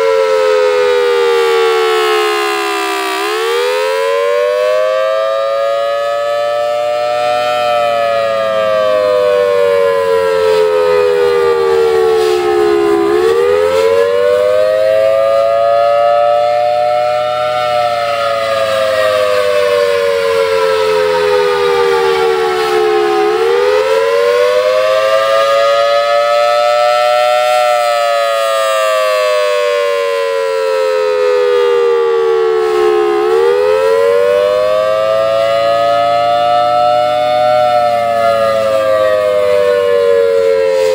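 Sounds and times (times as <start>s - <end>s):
warning siren: 0.0s - 40.9s.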